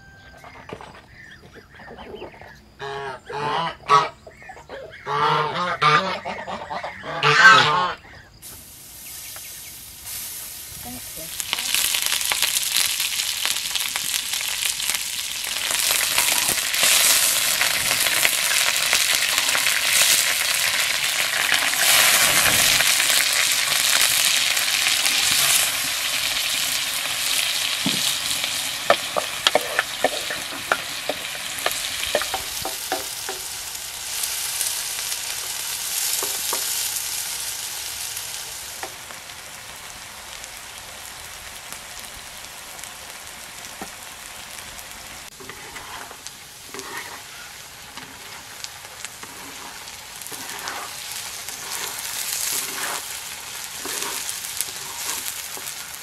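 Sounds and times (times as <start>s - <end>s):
potatoes sizzling in fat: 0.0s - 56.0s.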